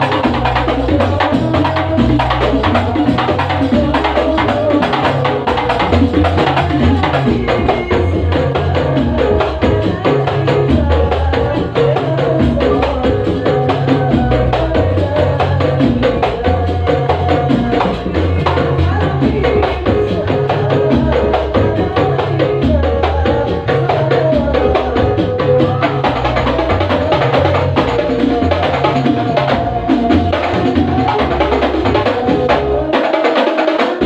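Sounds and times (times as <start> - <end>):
hand-beaten frame drums: 0.0 - 34.0
men singing into microphones: 0.0 - 34.0.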